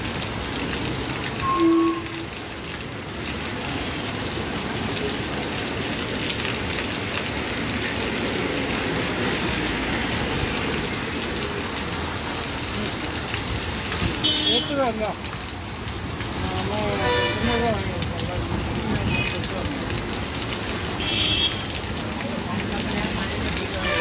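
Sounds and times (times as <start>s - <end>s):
rain on wet street: 0.0s - 24.0s
road traffic: 0.0s - 24.0s.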